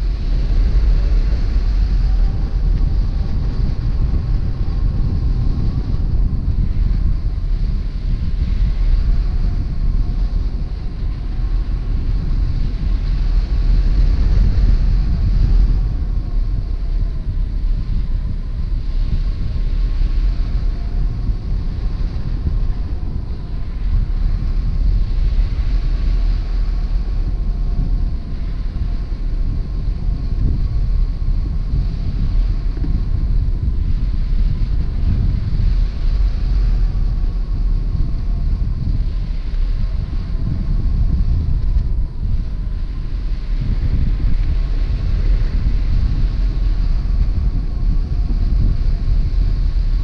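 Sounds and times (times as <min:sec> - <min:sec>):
faint wind whistle: 0:00.0 - 0:50.0
wind buffeting microphone: 0:00.0 - 0:50.0.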